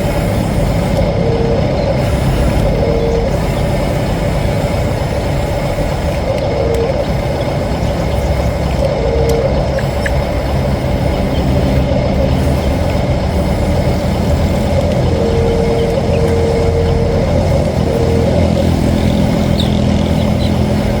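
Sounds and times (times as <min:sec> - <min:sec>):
model motor running: 0:00.0 - 0:21.0
thin whine: 0:00.0 - 0:21.0.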